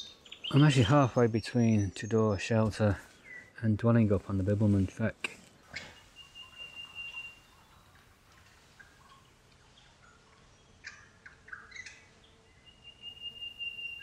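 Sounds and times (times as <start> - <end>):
birds chirping: 0.0 - 4.6, 5.6 - 14.0
outdoor background hiss: 0.0 - 14.0.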